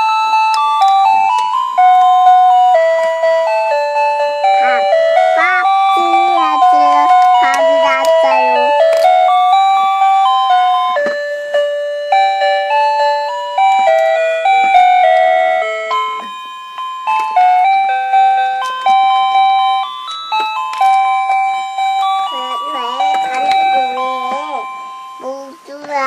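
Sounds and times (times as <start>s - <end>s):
electronic toy beeping melody: 0.0s - 26.0s.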